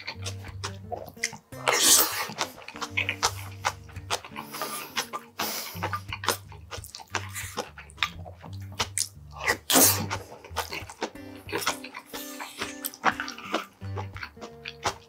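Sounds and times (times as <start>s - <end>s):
wet chewing and lip smacks: 0.0s - 15.0s
loud slurp: 0.2s - 15.0s.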